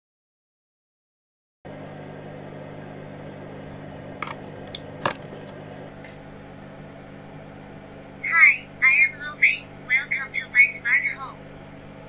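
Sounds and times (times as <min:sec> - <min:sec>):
steady low hum: 0:01.7 - 0:12.0.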